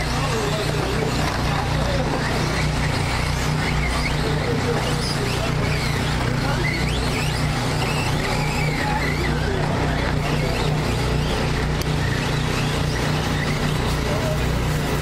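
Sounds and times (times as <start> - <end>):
rc truck motors whining: 0.0 - 15.0
steady low hum: 0.0 - 15.0.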